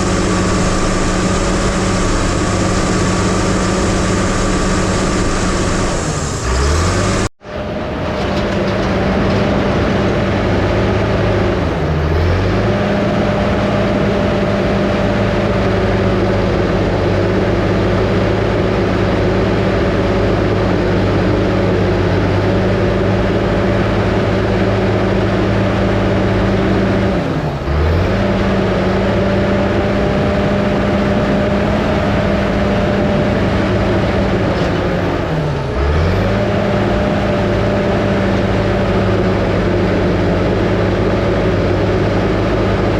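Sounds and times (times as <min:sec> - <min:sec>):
crawler dozer diesel engine working: 0:00.0 - 0:42.9.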